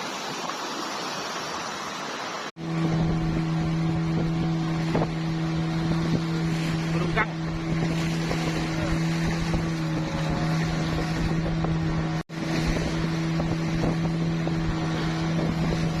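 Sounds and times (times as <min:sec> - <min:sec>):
motor running steadily: 0:02.6 - 0:16.0
wind rushing over microphone: 0:02.6 - 0:16.0.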